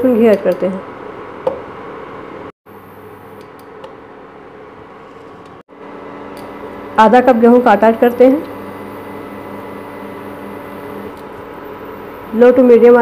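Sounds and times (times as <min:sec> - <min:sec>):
induction cooktop hum and hiss: 0:00.0 - 0:13.0.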